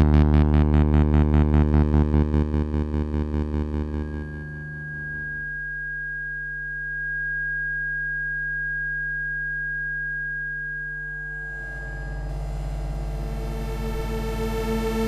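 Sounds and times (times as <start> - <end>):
buzzing mains hum: 0.0 - 15.0
high sine-like tone: 0.0 - 15.0
low electrical hum: 0.0 - 15.0.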